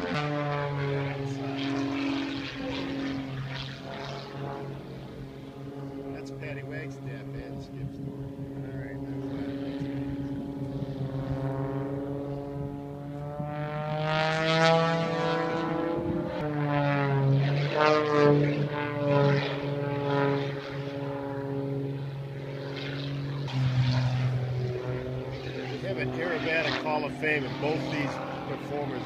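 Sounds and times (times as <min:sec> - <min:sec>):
propeller airplane engine overhead: 0:00.0 - 0:29.0.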